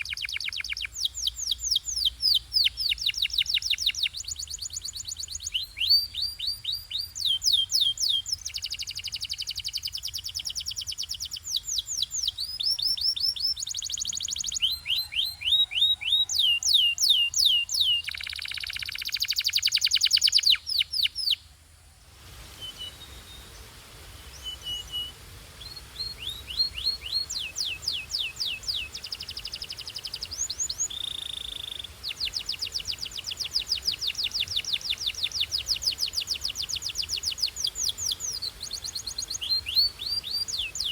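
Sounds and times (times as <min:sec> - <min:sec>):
canary singing trills: 0:00.0 - 0:21.4, 0:24.2 - 0:40.9.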